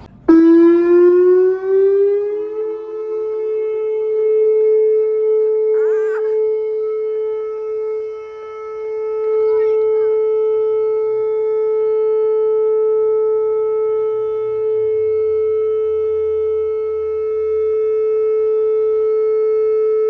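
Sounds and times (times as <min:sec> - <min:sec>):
outdoor warning siren steady tone: 0:00.0 - 0:20.0.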